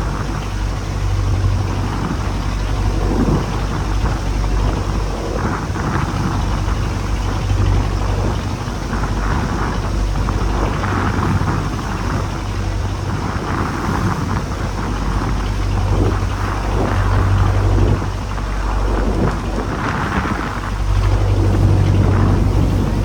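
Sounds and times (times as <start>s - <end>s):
rough sea: 0.0s - 23.0s
steady low rumble: 0.0s - 23.0s
wind buffeting microphone: 0.0s - 23.0s.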